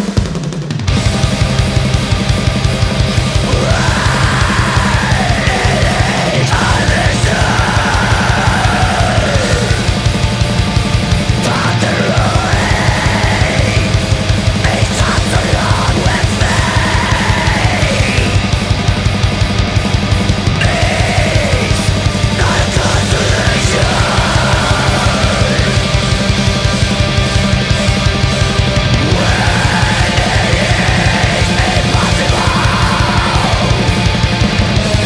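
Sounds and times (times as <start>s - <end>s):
fast dense drumming: 0.0s - 35.0s
heavy metal music: 0.0s - 35.0s.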